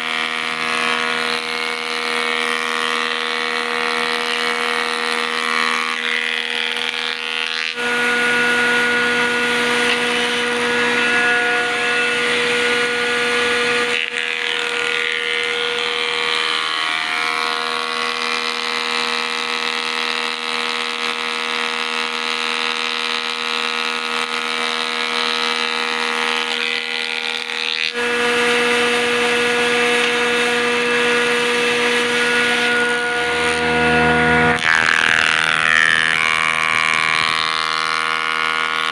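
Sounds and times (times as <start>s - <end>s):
woodworking machine whining: 0.0s - 38.9s.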